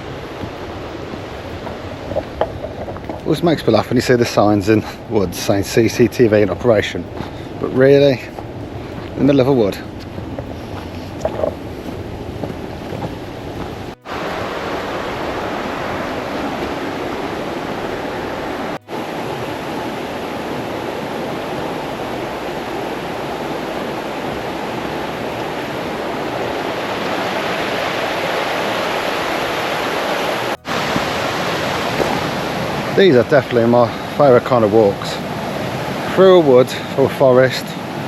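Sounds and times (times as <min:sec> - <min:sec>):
woodland stream rushing: 0:00.0 - 0:38.0.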